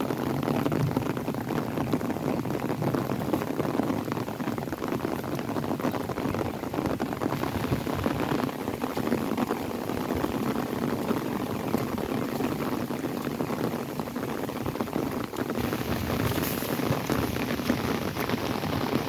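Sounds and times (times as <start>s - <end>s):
rain pattering on an umbrella: 0.0s - 19.0s.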